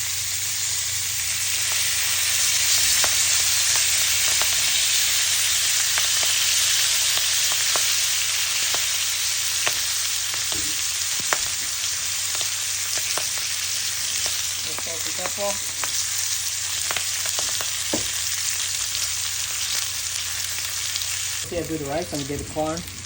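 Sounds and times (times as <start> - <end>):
fish sizzling on a grill: 0.0 - 23.0
oil popping and crackling: 0.2 - 23.0.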